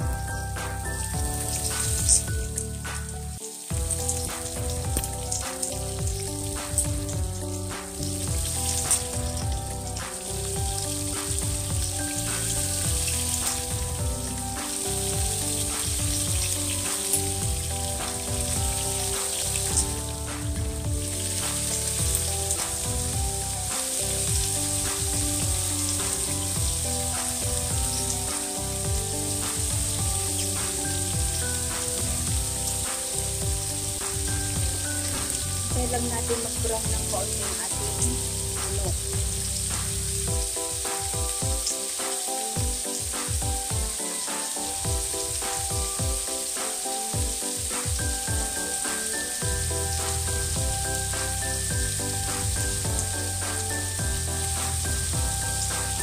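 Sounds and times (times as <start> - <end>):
chicken sizzling in hot oil: 0.0 - 56.0
instrumental music: 0.0 - 56.0.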